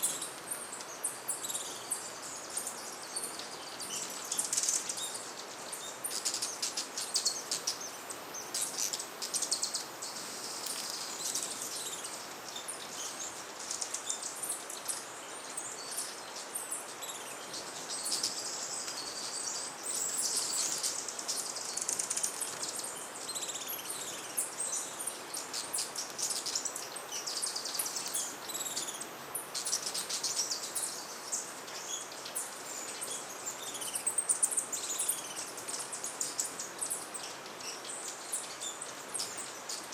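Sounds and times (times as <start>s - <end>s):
background hiss: 0.0s - 39.9s
hummingbirds chipping: 0.0s - 39.9s.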